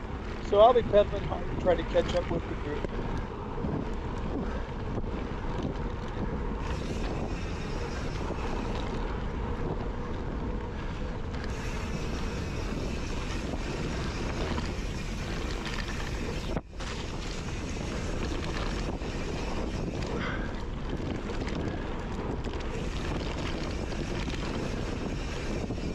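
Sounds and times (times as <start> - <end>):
bike rumbling over dirt trail: 0.0 - 25.9
wind buffeting microphone: 0.0 - 25.9.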